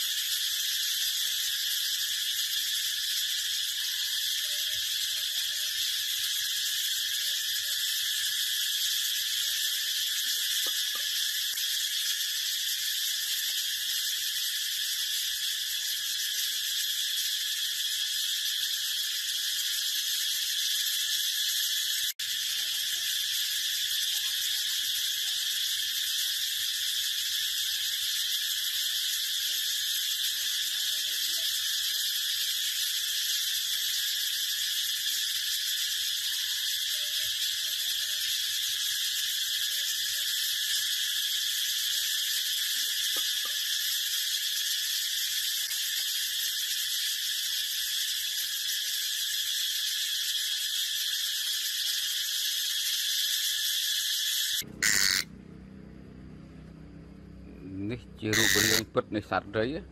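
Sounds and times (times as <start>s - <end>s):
cicada buzzing: 0.0s - 59.9s.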